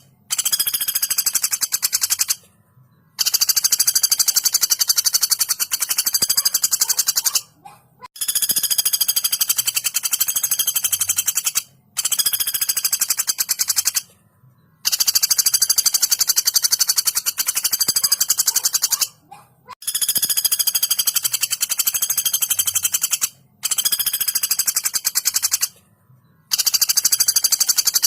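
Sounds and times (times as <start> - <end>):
bird rattling trills: 0.0 - 2.4, 3.2 - 7.6, 8.2 - 14.1, 14.8 - 25.8, 26.5 - 28.0.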